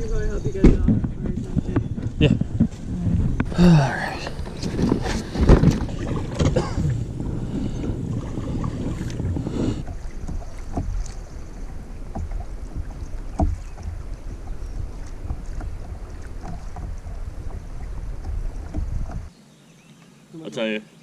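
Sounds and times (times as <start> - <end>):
wind on microphone: 0.0 - 19.3
knocks from boat: 0.4 - 19.3.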